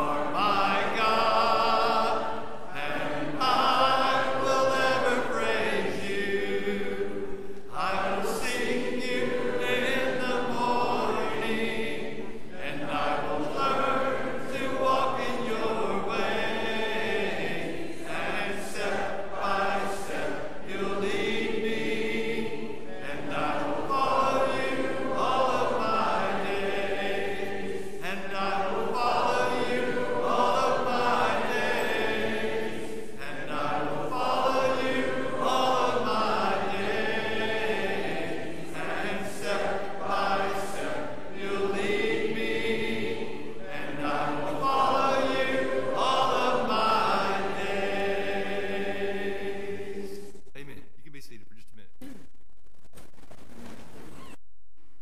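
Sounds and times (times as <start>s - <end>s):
congregation singing a cappella: 0.0s - 50.4s.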